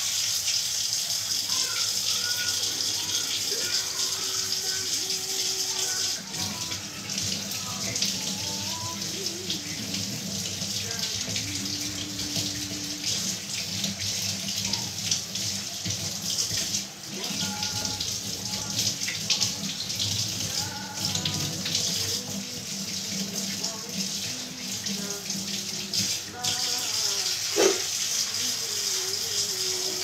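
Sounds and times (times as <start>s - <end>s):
dishes being washed: 0.0s - 30.0s
tap water running into a sink: 0.0s - 30.0s.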